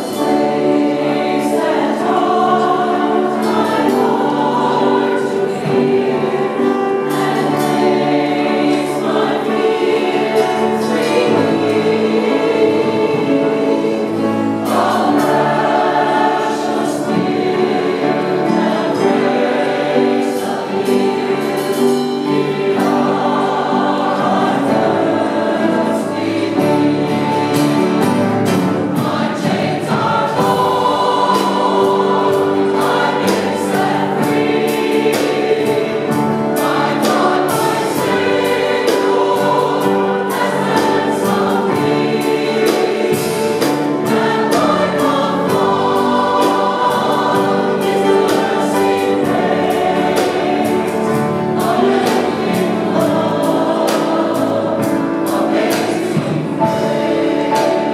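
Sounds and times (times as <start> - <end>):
choir singing: 0.0 - 57.9
keyboard: 0.0 - 57.9.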